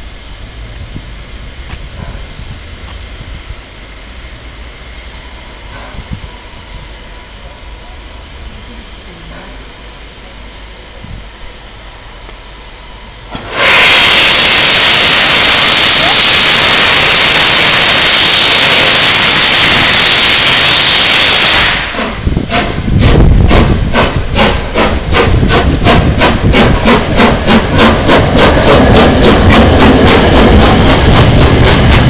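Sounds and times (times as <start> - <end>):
low rumble of passing locomotive: 0.0 - 32.0
steam locomotive exhaust beats: 0.0 - 32.0
steam locomotive hissing steam: 0.0 - 32.0.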